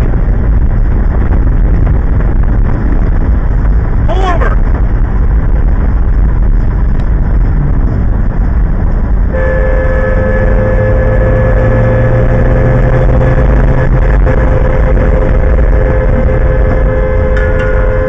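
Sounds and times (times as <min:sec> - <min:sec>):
road and wind noise inside car: 0:00.0 - 0:18.0.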